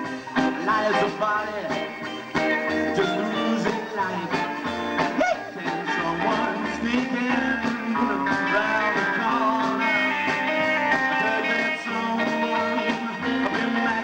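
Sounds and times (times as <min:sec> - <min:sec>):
electric guitar: 0:00.0 - 0:14.0
upright double bass: 0:00.0 - 0:14.0.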